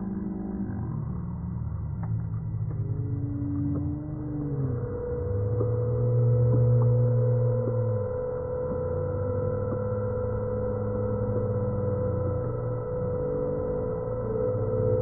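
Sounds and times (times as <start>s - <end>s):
ambient droning music: 0.0s - 15.0s.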